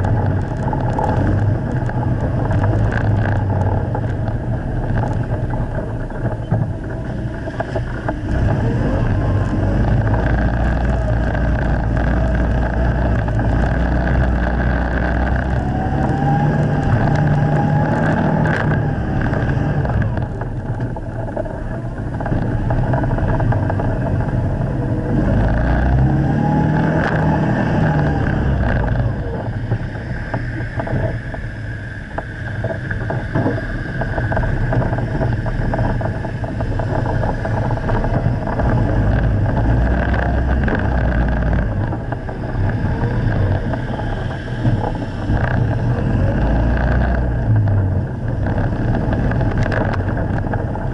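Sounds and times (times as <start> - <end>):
vehicle engine running under load: 0.0 - 50.9.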